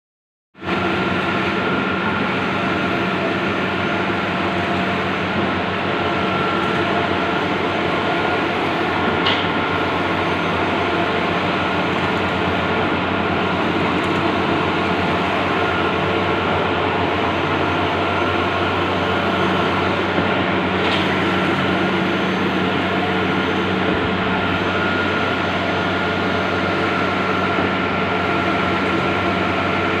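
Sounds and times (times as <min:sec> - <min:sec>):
printer mechanical hum and whir: 0:00.6 - 0:30.0.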